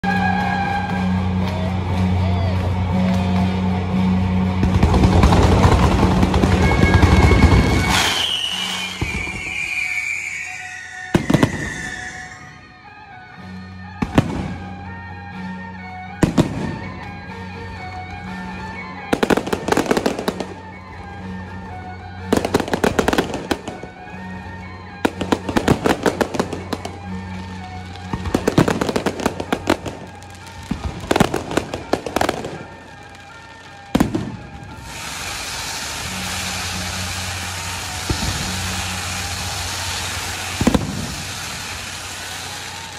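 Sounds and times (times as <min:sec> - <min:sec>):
fireworks bangs and crackling: 0:00.0 - 0:12.7, 0:13.9 - 0:42.9
fountain fireworks hissing: 0:00.0 - 0:12.7, 0:16.2 - 0:42.9.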